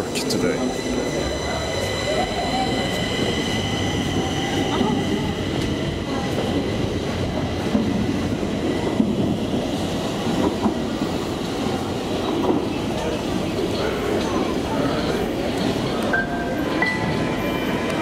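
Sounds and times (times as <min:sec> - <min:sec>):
low rumble of metro trains: 0:00.0 - 0:18.0.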